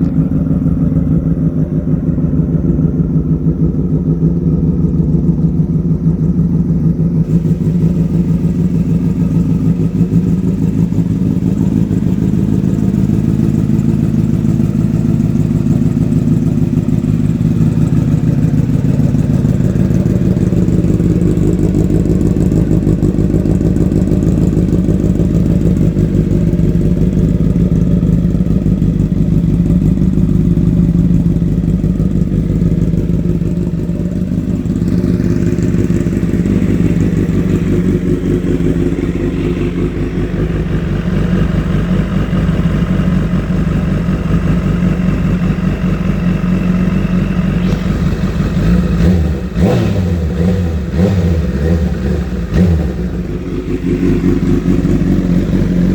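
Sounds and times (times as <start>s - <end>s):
motorcycle engine exhaust note: 0.0s - 55.9s.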